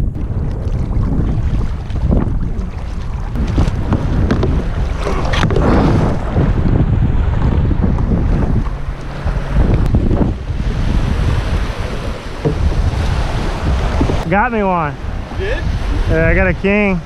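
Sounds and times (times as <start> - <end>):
water splashing around kayak: 0.0 - 17.0
wind buffeting microphone: 0.0 - 17.0.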